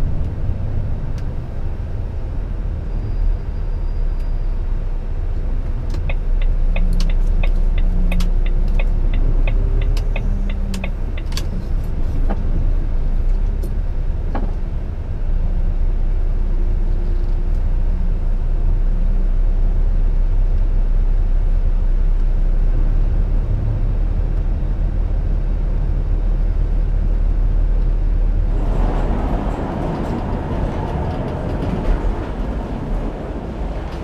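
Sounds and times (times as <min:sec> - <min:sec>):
truck diesel engine rumbling: 0:00.0 - 0:16.8, 0:17.7 - 0:34.0.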